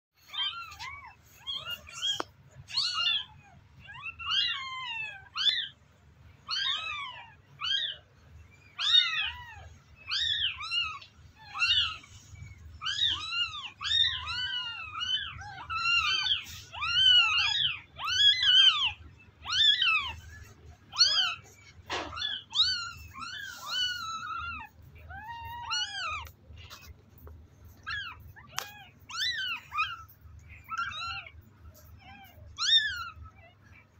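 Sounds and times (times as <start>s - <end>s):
kittens mewing: 0.2s - 33.9s.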